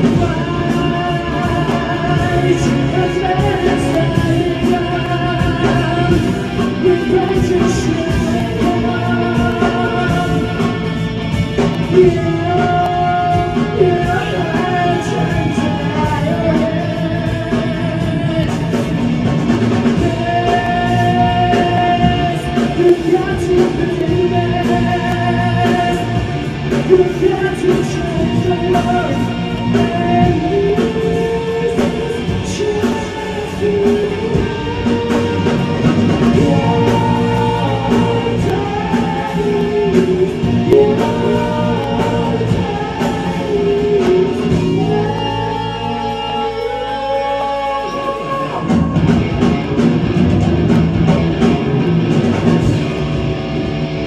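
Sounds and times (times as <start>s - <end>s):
person singing: 0.0s - 53.1s
rock band playing: 0.0s - 54.0s.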